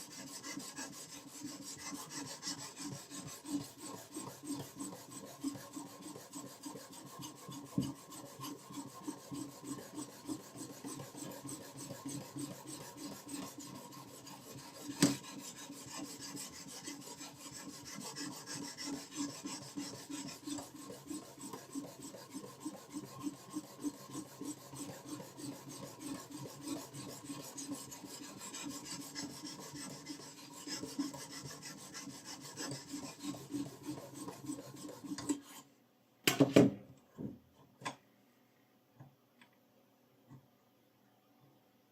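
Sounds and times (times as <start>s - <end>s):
knife rasping on sharpening stone: 0.1s - 35.6s.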